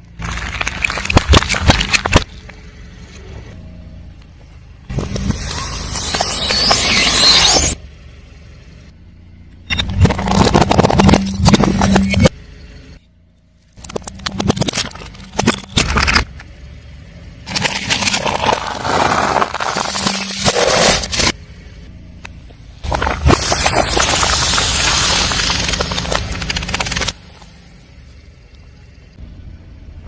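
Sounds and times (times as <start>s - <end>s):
car tyre crushing crunchy objects: 0.0s - 3.6s, 4.4s - 7.8s, 9.7s - 12.7s, 13.5s - 16.7s, 17.4s - 28.9s
low engine hum: 0.0s - 19.9s, 20.8s - 30.0s.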